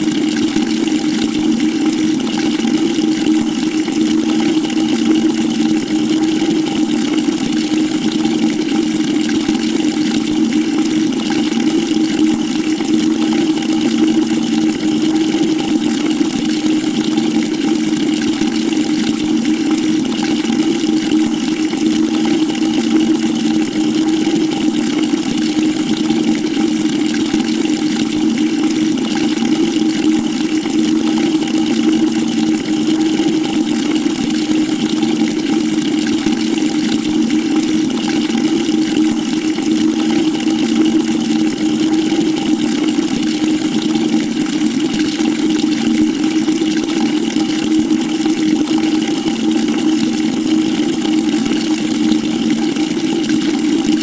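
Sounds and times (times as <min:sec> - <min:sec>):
water pouring into a bucket: 0:00.0 - 0:54.0.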